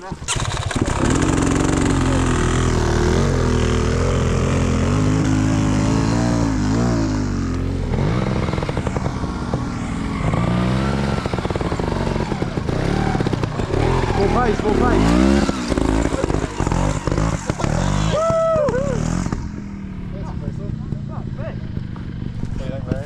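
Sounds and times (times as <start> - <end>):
dirt bike engine revving: 0.0 - 22.6.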